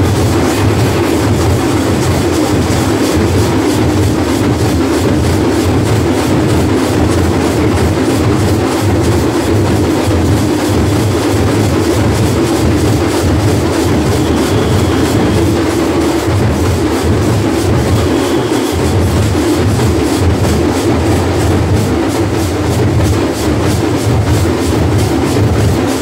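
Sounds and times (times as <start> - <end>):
live percussion music: 0.0 - 26.0.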